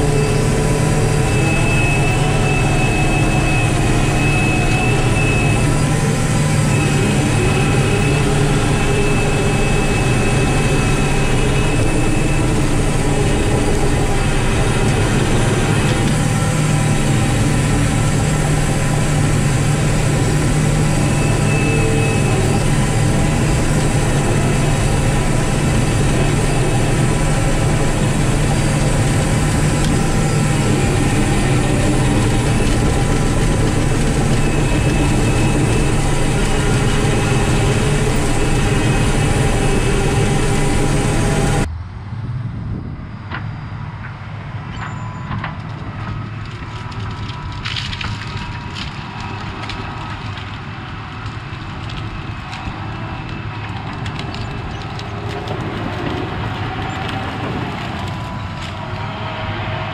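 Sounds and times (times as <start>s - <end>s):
burnt trees cracking and snapping: 0.0s - 41.6s, 45.4s - 59.2s
diesel engine working under load: 0.0s - 59.9s.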